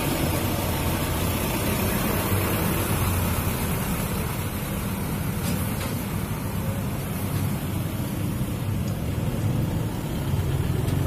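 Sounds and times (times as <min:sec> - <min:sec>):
low drone of vehicle engines: 0:00.0 - 0:11.0
truck diesel engine passing: 0:00.0 - 0:11.0.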